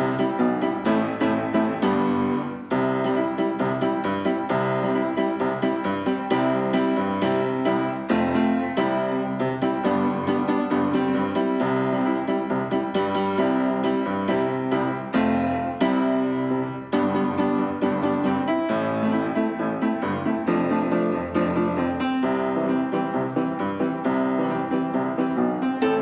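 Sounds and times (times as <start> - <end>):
background piano music: 0.0 - 26.0.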